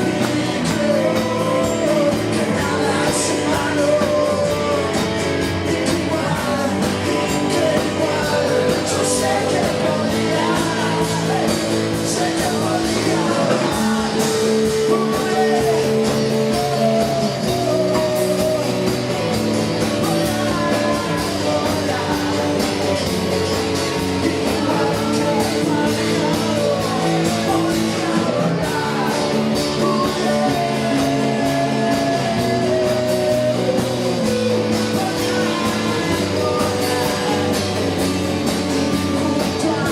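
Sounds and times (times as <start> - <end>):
drums: 0.0 - 39.9
guitars: 0.0 - 39.9
person singing: 0.0 - 39.9.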